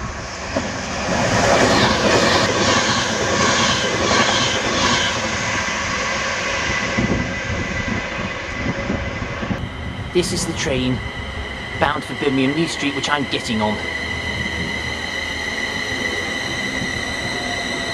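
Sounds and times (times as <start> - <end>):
train speeding past: 0.0 - 17.9.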